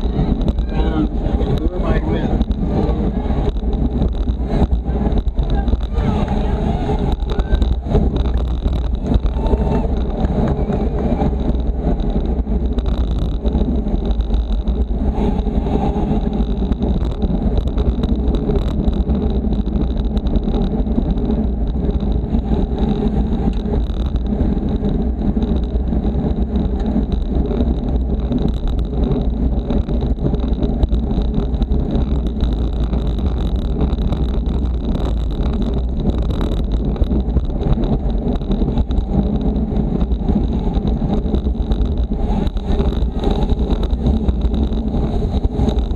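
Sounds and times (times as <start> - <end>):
road and tyre noise: 0.0 - 45.9
wind buffeting microphone: 0.0 - 45.9.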